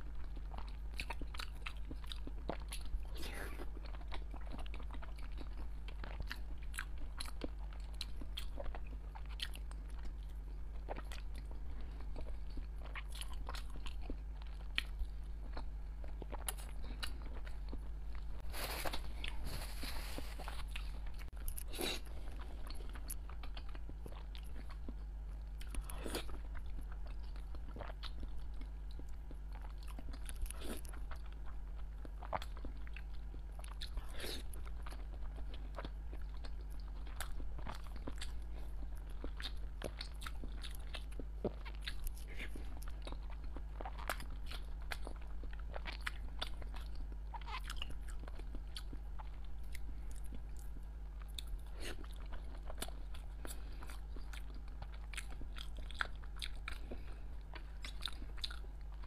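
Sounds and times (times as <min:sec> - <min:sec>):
person chewing wet food: 0:00.0 - 0:59.0
steady low hum: 0:00.0 - 0:59.0.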